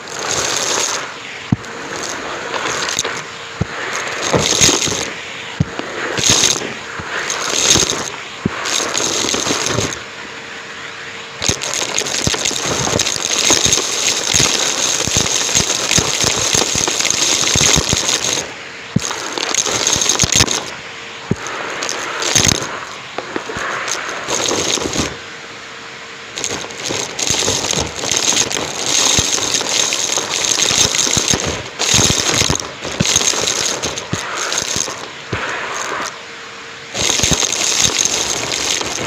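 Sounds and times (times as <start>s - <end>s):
debris crunching and rattling: 0.0s - 10.0s, 11.4s - 20.7s, 21.3s - 25.2s, 26.4s - 36.2s, 37.0s - 39.0s
vacuum cleaner hum: 0.0s - 39.0s.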